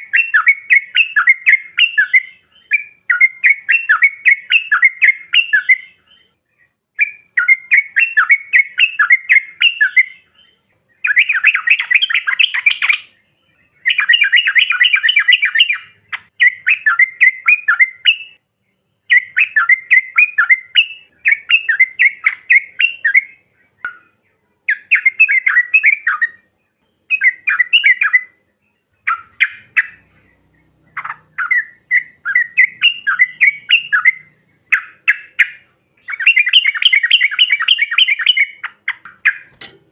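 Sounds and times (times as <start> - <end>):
bird chattering song: 0.0 - 39.8.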